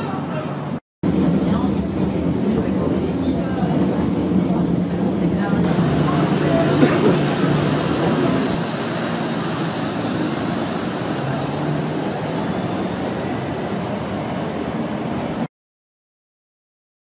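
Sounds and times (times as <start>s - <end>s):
tram running rumble: 0.0s - 15.5s.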